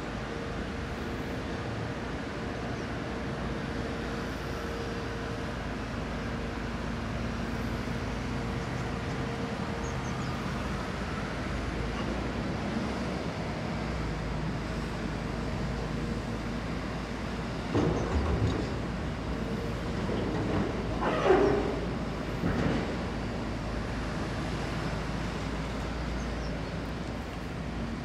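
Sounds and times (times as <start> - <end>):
heavy diesel machinery droning: 0.0 - 28.0.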